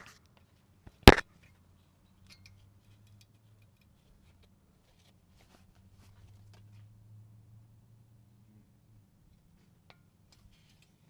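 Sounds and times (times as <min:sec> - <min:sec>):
faint low hum: 0:00.2 - 0:11.0.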